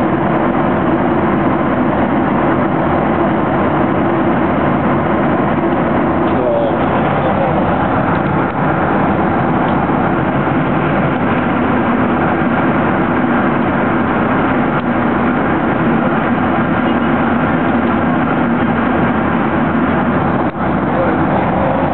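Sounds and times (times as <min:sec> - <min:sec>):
aircraft engines droning: 0:00.0 - 0:21.9
constant low hum: 0:00.0 - 0:21.9
rushing air in cabin: 0:00.0 - 0:21.9.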